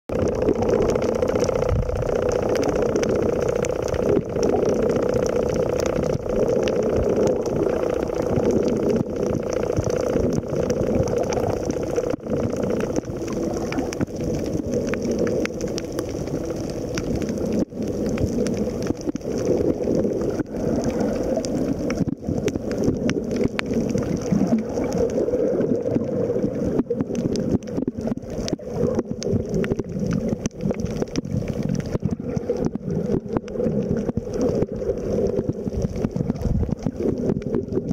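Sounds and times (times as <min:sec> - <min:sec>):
muffled underwater rush: 0:00.1 - 0:37.9
small underwater clicks: 0:00.1 - 0:37.9.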